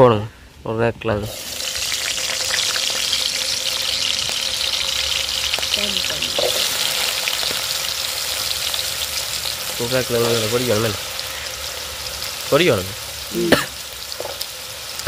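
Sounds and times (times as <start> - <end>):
potatoes sizzling in hot oil: 1.2 - 15.0.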